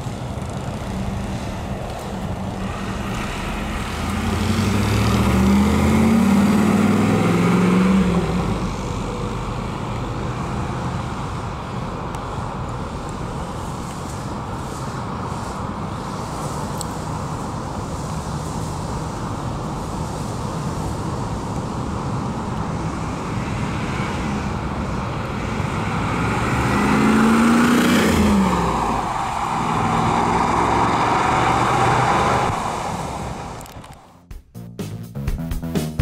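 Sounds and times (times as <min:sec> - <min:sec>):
car engine passing by: 0:00.0 - 0:34.2.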